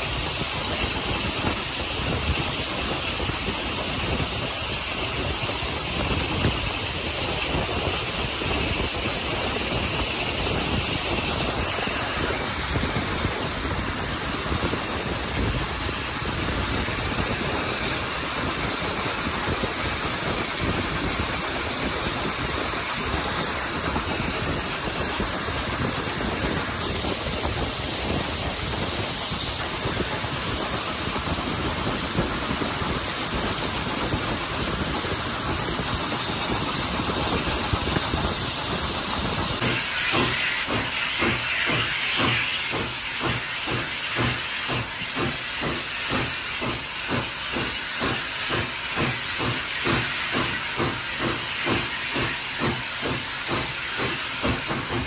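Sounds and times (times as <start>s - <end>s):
locomotive exhaust beats: 0.0s - 55.0s
steam hissing: 0.0s - 55.0s
steam locomotive running noise: 0.0s - 55.0s.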